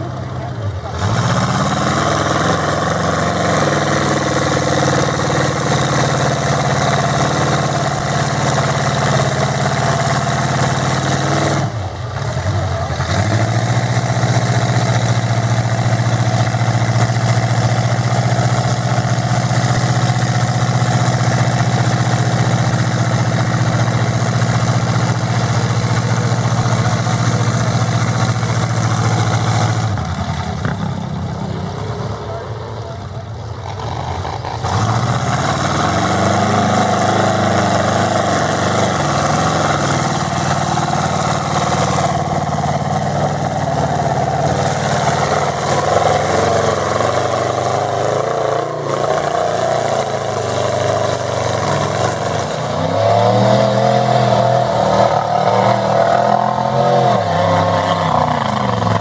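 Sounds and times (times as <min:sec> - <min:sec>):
truck engine at high revs: 0:00.0 - 0:59.0.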